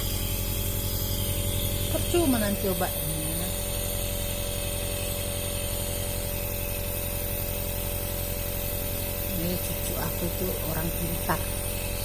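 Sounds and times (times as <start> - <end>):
nebulizer compressor humming: 0.0 - 12.0.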